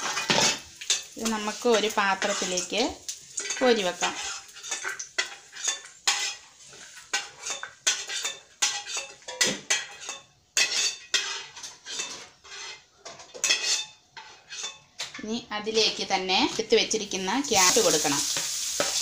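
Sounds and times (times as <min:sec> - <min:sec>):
spoon scraping and clinking on pan: 0:00.0 - 0:15.2, 0:18.3 - 0:19.0.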